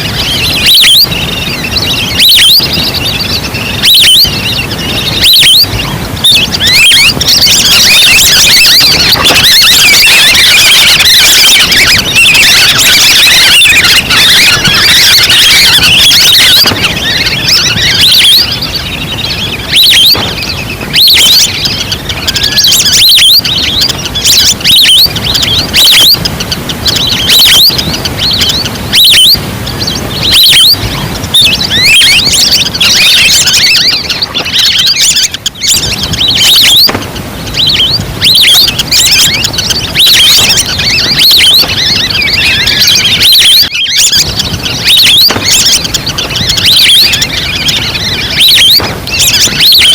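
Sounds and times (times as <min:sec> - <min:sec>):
recorded duck calls: 0:00.0 - 0:49.9.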